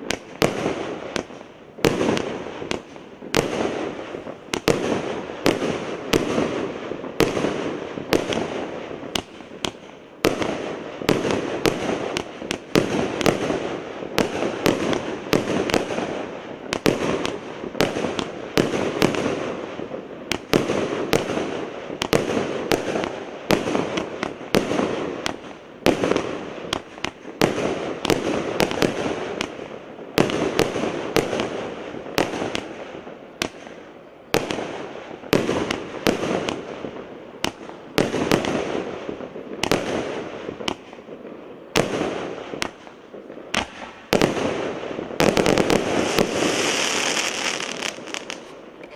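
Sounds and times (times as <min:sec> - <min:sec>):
fireworks shots: 0:00.0 - 0:48.9
hiss of bursting fireworks: 0:00.0 - 0:48.9.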